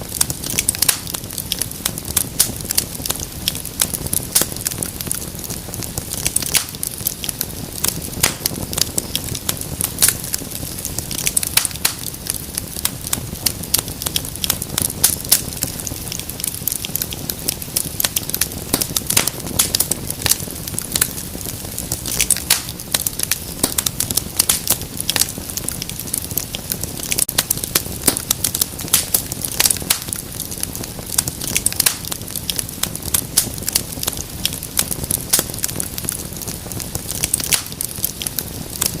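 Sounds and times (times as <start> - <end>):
fire pops and snaps: 0.0 - 39.0
rush of flame: 0.0 - 39.0.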